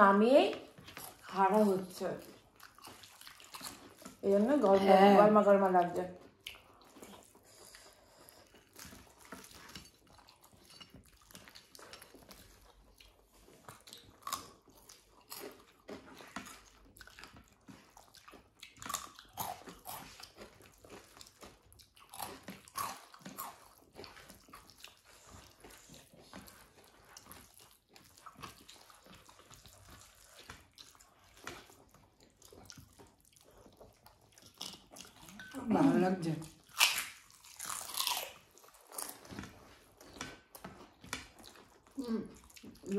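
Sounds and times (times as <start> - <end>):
chewing and mouth sounds: 0.4 - 42.9.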